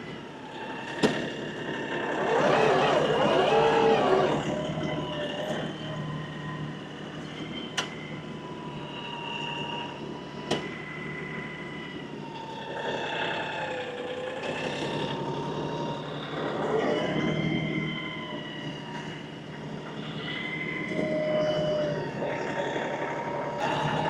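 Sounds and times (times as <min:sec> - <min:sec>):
tractor engine whining: 0:00.0 - 0:24.0.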